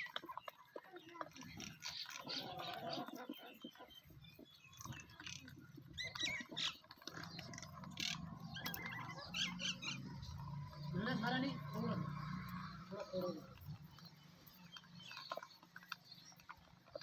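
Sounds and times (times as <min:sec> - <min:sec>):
animals crunching potatoes: 0:00.0 - 0:17.0.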